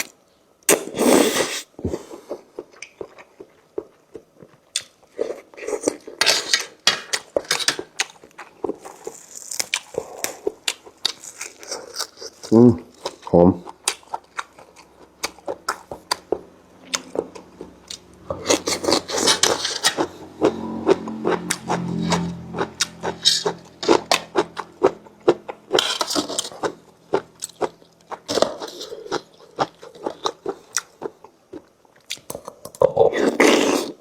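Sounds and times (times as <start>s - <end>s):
person chewing with crunches: 0.7s - 34.0s.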